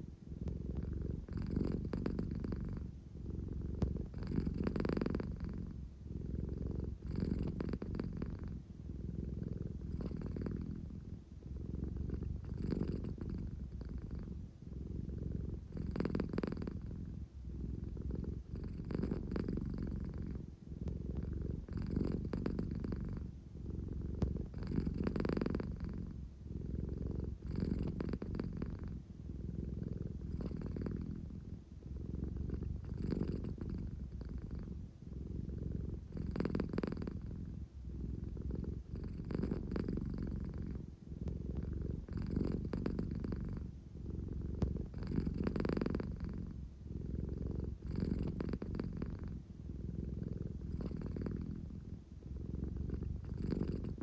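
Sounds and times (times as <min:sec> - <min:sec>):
cat purring deeply: 0:00.0 - 0:54.0.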